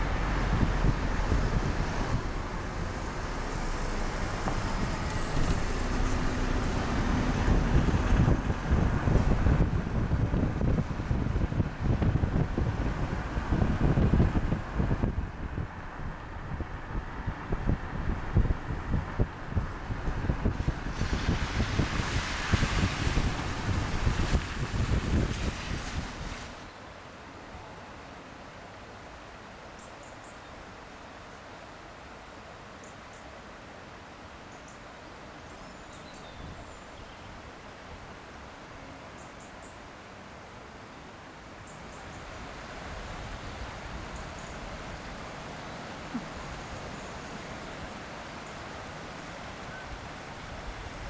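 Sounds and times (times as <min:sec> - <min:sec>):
steady rushing outdoor noise: 0:00.0 - 0:51.0.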